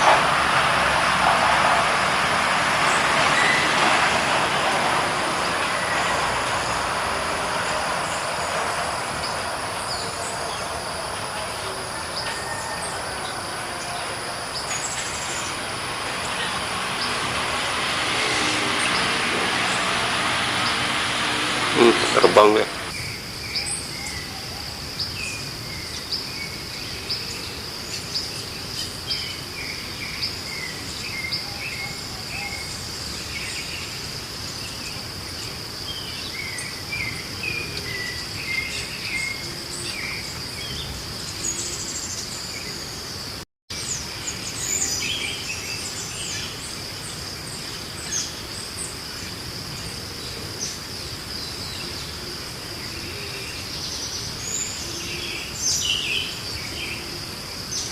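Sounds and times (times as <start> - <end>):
high insect drone: 0.0 - 57.9.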